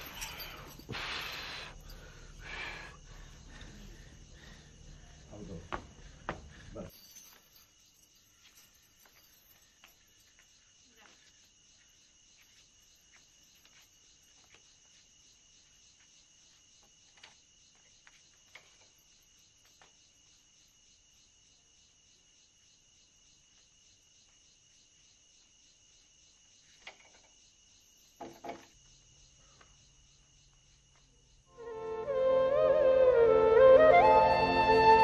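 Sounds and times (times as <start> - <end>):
crickets chirring: 0.0 - 34.1.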